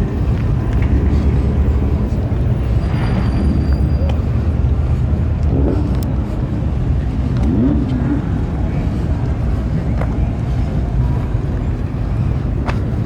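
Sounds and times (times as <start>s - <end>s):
faint voices: 0.0s - 13.0s
vehicle engine running: 0.0s - 13.0s.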